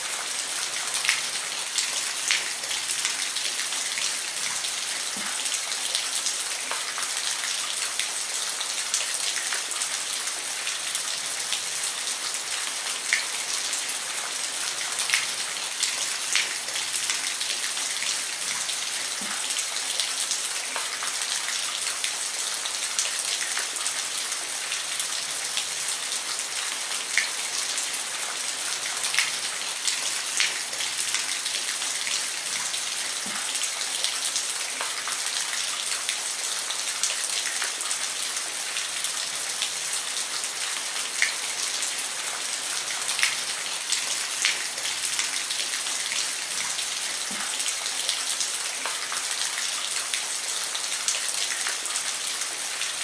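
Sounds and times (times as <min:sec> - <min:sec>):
rain falling on a roof: 0:00.0 - 0:53.0.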